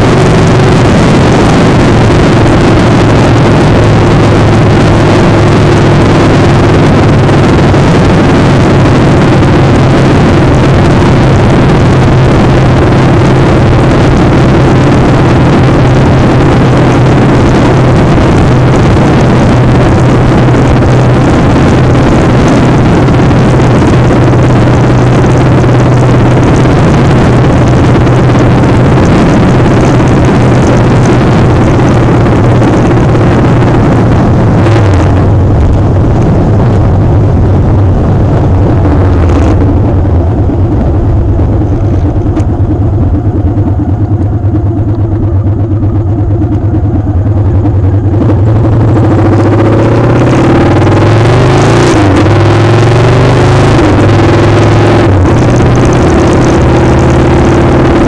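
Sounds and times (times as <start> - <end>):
motorcycle engine running: 0.0 - 58.0
wind rushing on microphone: 0.0 - 58.0.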